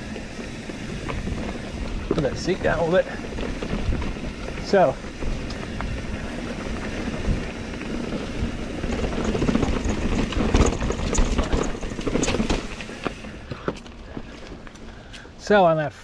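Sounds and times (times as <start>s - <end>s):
wind buffeting microphone: 0.0s - 14.8s
bike knocking and rattling: 0.0s - 15.5s
bike tyre noise: 0.0s - 15.6s.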